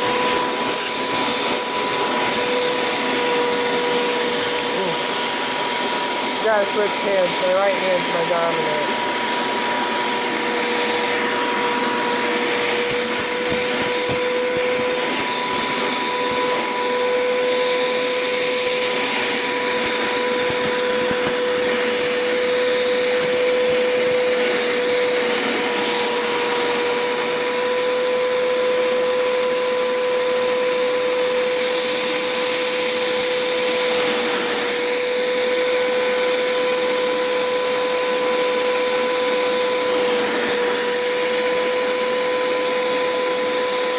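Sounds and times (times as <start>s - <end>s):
carpet cleaner motor humming: 0.0s - 43.9s.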